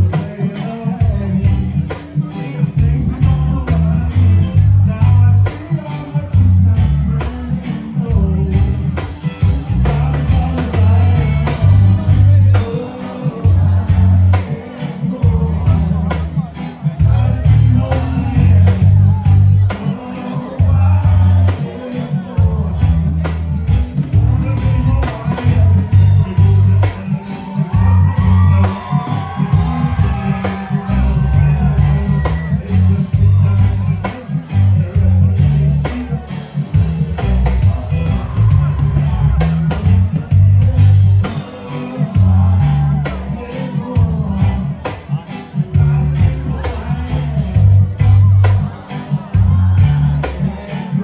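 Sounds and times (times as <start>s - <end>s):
loud song with heavy bass beat: 0.0s - 51.0s
person singing: 0.0s - 51.0s.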